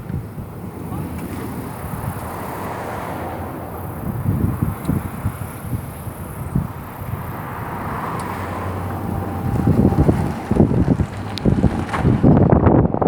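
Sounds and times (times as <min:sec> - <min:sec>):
truck rumbling: 0:00.0 - 0:13.0
wind buffeting microphone: 0:00.0 - 0:13.0.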